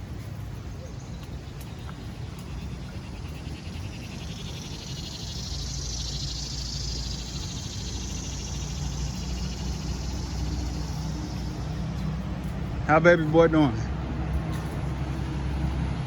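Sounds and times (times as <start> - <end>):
frogs trilling: 0.0 - 14.0.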